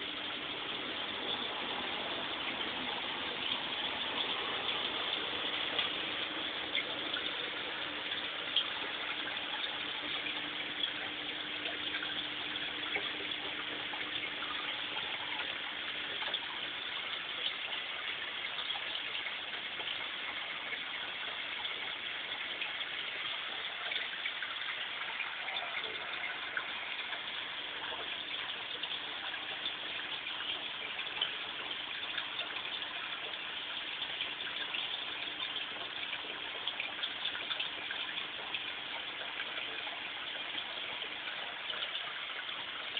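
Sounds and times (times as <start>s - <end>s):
faint steady hum: 0.0s - 42.9s
water gushing and splashing: 0.0s - 42.9s.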